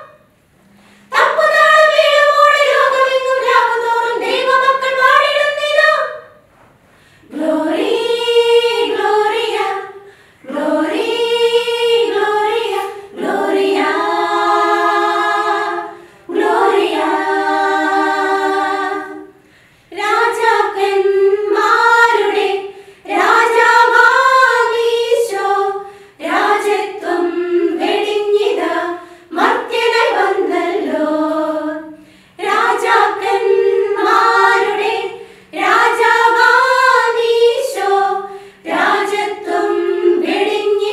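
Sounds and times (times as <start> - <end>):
women's choir singing a cappella: 0.0 - 0.3, 1.0 - 6.5, 7.2 - 40.9.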